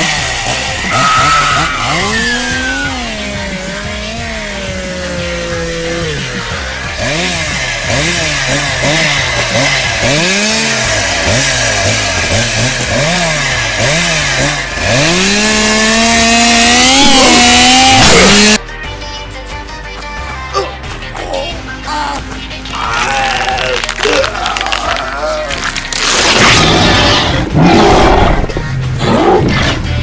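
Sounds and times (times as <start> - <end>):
chainsaw engine revving: 0.0 - 18.6, 23.0 - 30.0.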